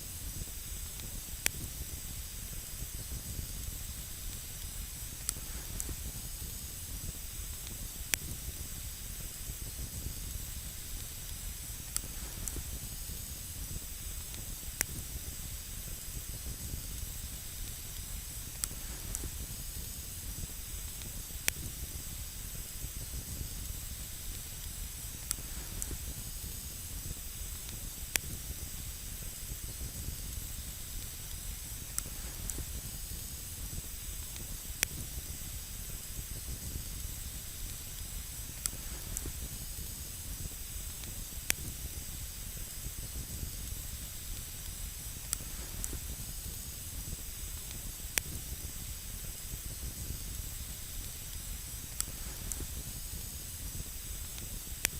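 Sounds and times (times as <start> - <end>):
campfire burning with crackles: 0.0 - 54.9.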